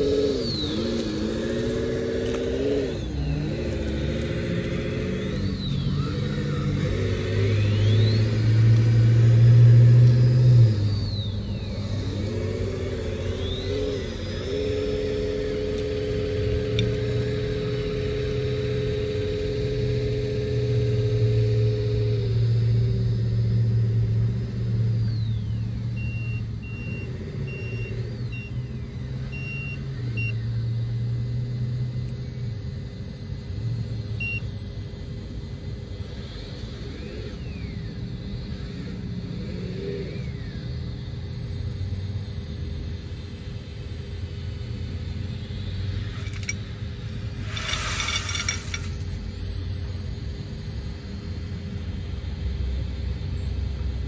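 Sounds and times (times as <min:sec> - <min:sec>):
thin high whine: 0:00.0 - 0:52.5
simulated diesel engine drone: 0:00.0 - 0:54.0.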